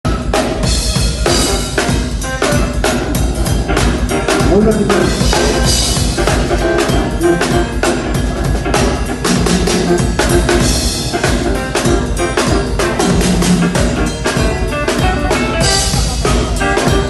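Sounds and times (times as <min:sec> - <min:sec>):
drum kit playing a busy groove: 0:00.0 - 0:17.0.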